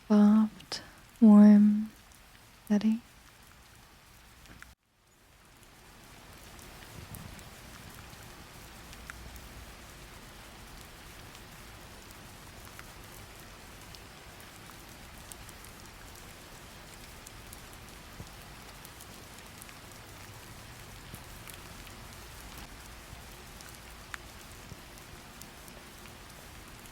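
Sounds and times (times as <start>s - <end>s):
steady rain hiss: 0.0s - 26.9s
raindrop ticks: 0.5s - 4.8s, 5.4s - 26.9s.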